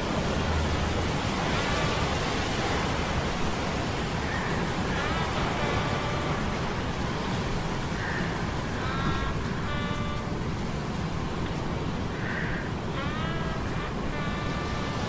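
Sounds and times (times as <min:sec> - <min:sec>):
rain: 0:00.0 - 0:15.0
surf: 0:00.0 - 0:15.0.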